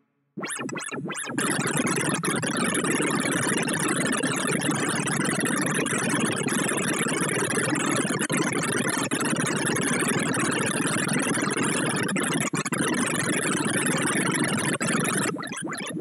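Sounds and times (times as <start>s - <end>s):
dense buzzing synthesized blips: 0.4s - 16.0s.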